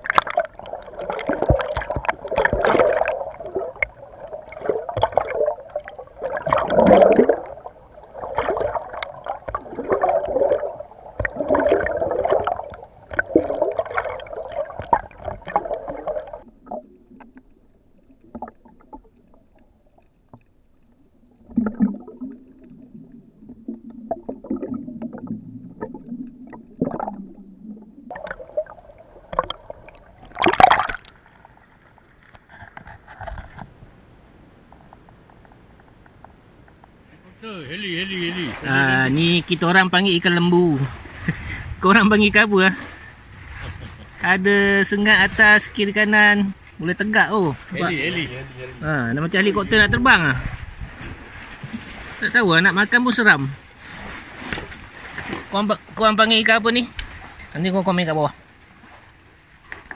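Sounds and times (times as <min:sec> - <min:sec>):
low steady hum: 0:00.0 - 0:49.7
underwater sloshing and gurgling: 0:00.0 - 0:59.9.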